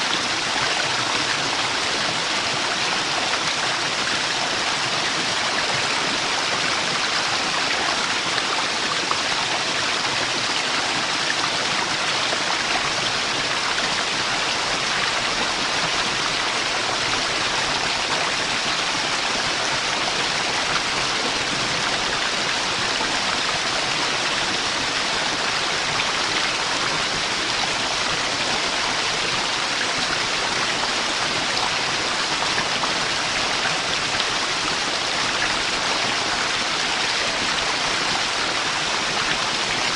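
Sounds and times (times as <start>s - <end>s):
waterfall rushing water: 0.0s - 39.9s.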